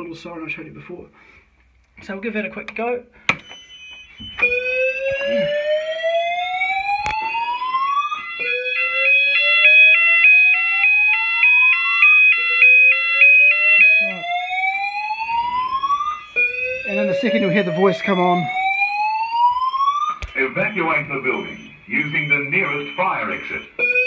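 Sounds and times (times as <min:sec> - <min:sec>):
rising evacuation alarm tone: 0:03.4 - 0:24.0
two-tone siren warble: 0:03.6 - 0:24.0.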